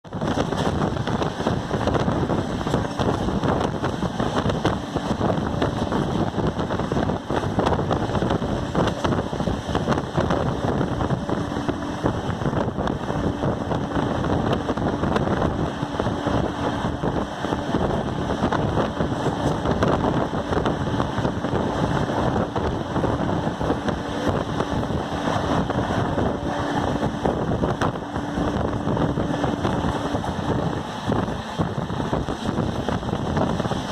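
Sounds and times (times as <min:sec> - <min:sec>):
train wheels rushing on rails: 0:00.0 - 0:33.9.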